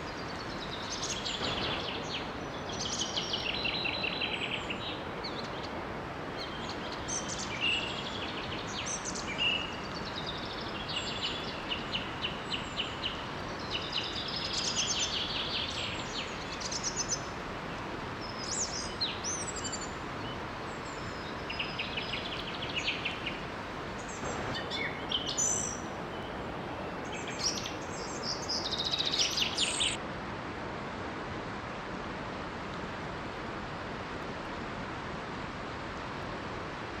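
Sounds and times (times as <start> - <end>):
songbirds chirping: 0.0 - 30.0
waterfall rushing: 0.0 - 30.0.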